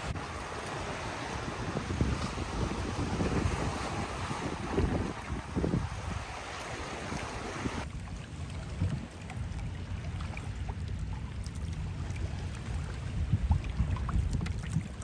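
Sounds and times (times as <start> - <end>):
water splashing and dripping: 0.0 - 15.0
wind rumble on microphone: 0.0 - 15.0.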